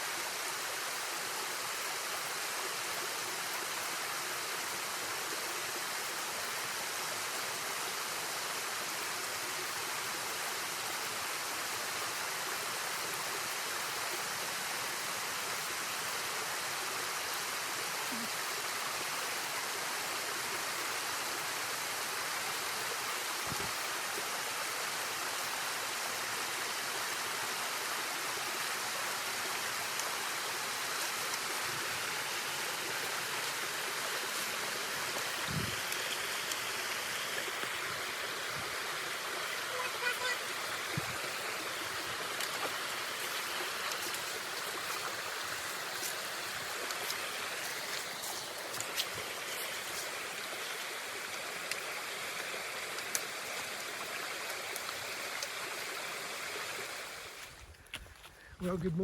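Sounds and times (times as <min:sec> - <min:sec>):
river water rushing: 0:00.0 - 0:57.6.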